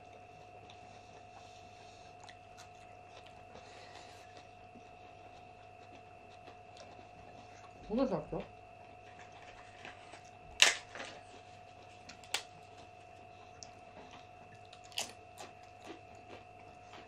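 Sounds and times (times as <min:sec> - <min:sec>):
faint steady whine: 0:00.0 - 0:17.0.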